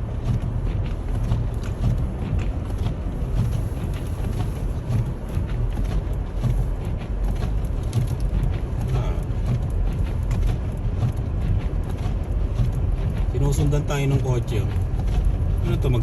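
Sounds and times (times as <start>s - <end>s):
car rumble on snowy road: 0.0s - 16.0s.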